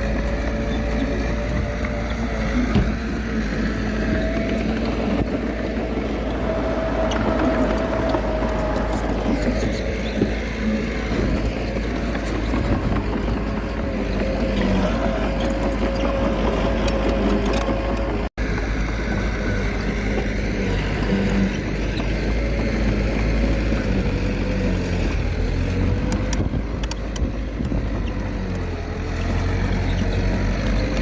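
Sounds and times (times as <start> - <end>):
bulldozer diesel engine running: 0.0 - 31.0.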